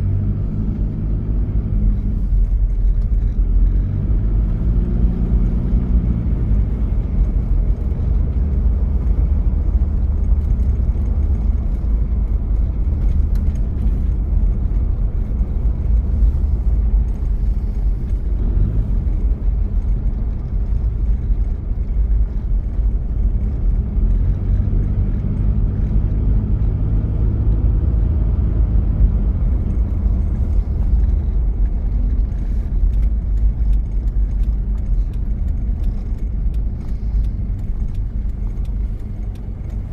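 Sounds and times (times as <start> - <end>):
diesel engine running: 0.0 - 39.9
road noise: 0.0 - 39.9.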